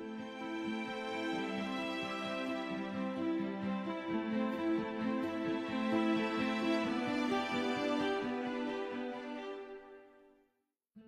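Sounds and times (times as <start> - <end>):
slow soft background music: 0.0 - 10.2.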